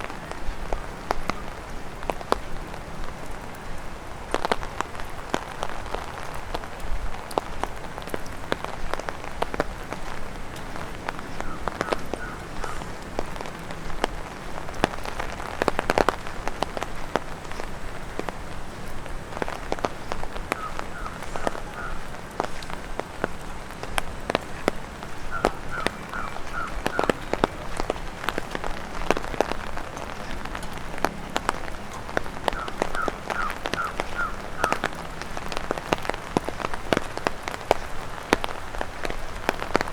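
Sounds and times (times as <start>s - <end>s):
hiss of rain: 0.0s - 39.9s
raindrops tapping on an umbrella: 0.0s - 39.9s.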